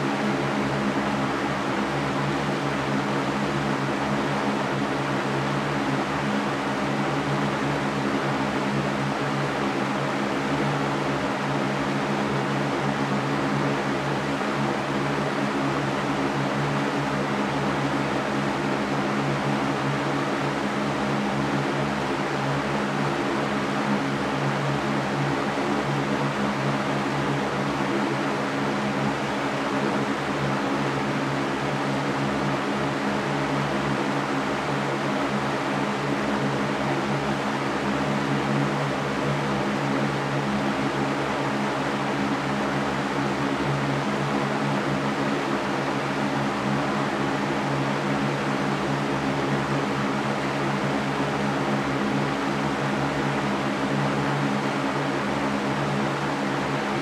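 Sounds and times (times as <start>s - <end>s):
electric fan air rush: 0.0s - 57.0s.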